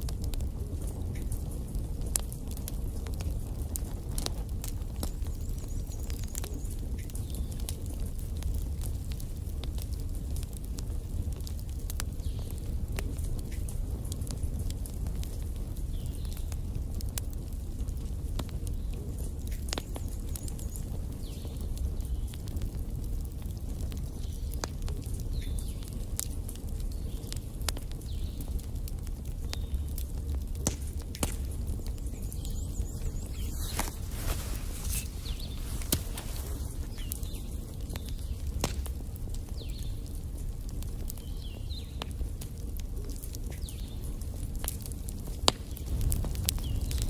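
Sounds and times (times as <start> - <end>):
fire crackling and popping: 0.0 - 47.0
fire low rumble: 0.0 - 47.0.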